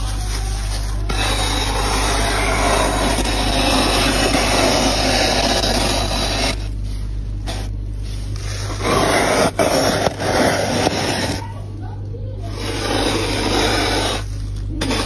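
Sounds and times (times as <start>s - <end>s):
scoop scraping frost: 0.0s - 11.6s, 12.4s - 15.0s.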